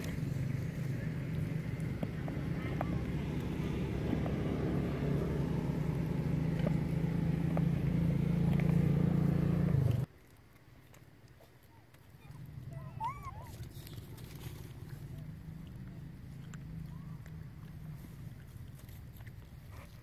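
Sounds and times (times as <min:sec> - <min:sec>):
motor vehicle engine hum: 0:00.0 - 0:10.1, 0:12.4 - 0:20.0
faint outdoor background: 0:00.0 - 0:20.0.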